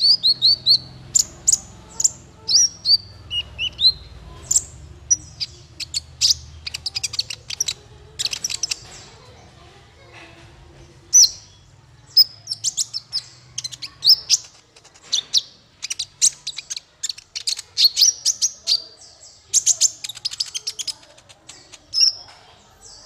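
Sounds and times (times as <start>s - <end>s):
sunbird chirps and trills: 0.0s - 9.6s, 11.1s - 23.0s.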